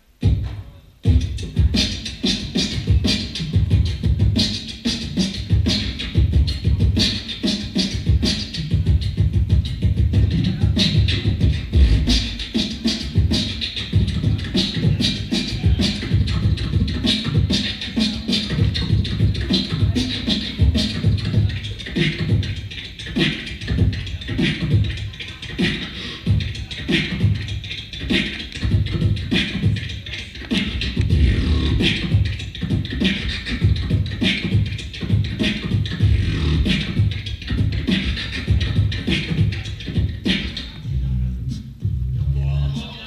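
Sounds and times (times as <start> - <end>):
beatboxing into a microphone: 0.2 - 43.0.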